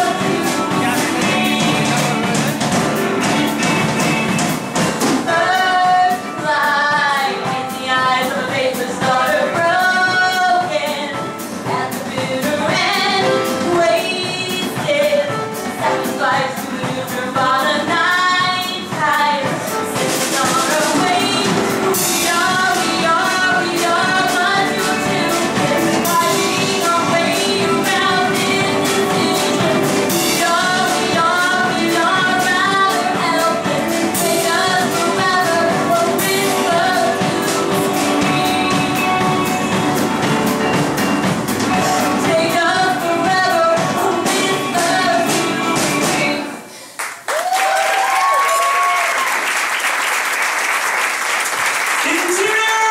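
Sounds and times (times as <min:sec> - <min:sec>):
woman singing lead: 0:00.0 - 0:03.7, 0:05.0 - 0:40.8, 0:41.7 - 0:47.0
rock band with drum kit: 0:00.0 - 0:49.8.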